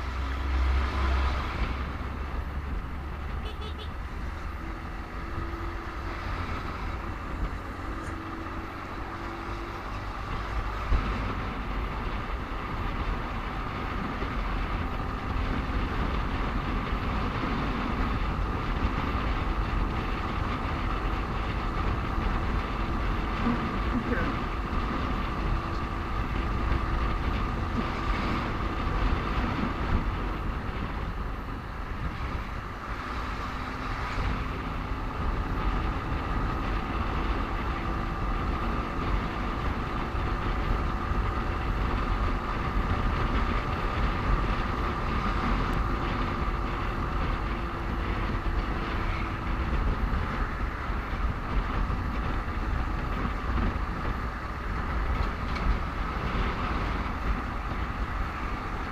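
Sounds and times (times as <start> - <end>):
motorcycle engine drone: 0.0 - 58.9
wind rumble on microphone: 0.0 - 58.9.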